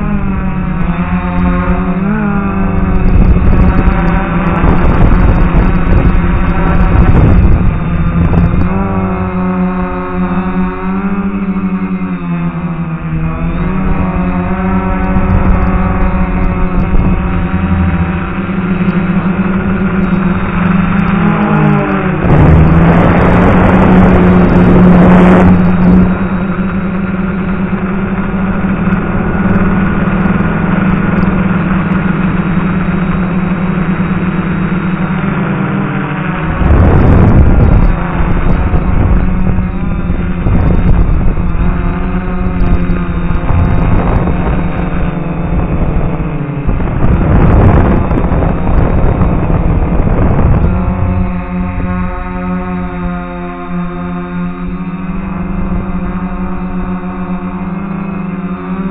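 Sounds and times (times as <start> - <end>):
quadcopter motors humming: 0.0 - 58.9
rush of wind-like noise: 0.0 - 58.9.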